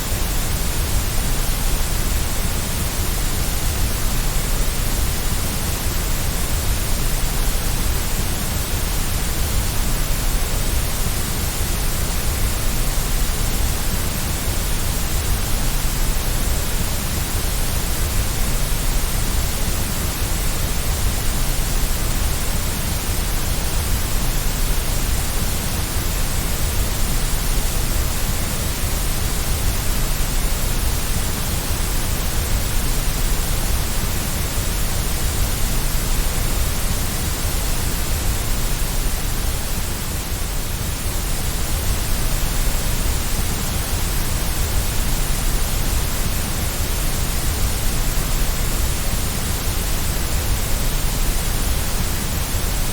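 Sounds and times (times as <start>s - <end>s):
white noise hiss: 0.0s - 52.9s.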